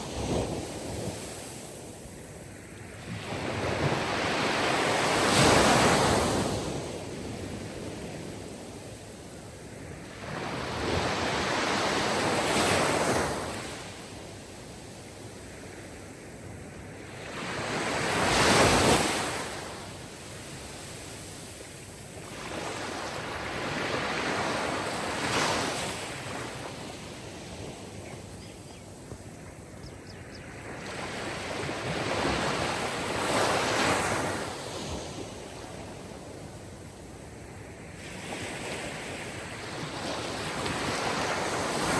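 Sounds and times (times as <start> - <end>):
sea waves breaking on shore: 0.0 - 41.9.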